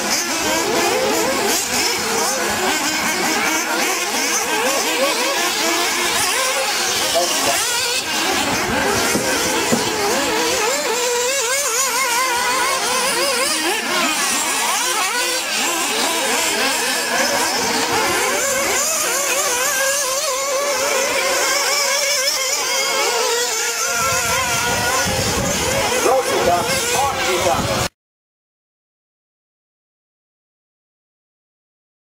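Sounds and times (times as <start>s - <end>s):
small engines whining: 0.0s - 27.9s.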